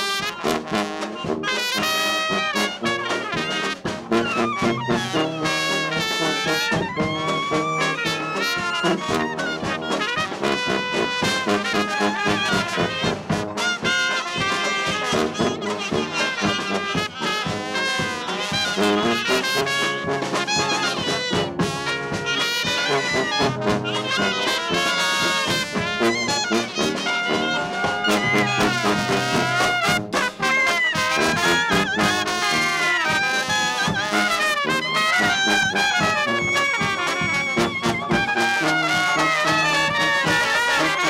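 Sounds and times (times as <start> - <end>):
jazz band playing live: 0.0 - 41.0
sousaphone bass line: 3.8 - 10.0, 10.6 - 40.2.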